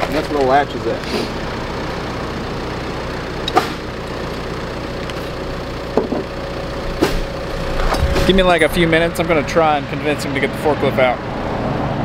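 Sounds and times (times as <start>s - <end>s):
vehicle engine idling: 0.0s - 11.6s.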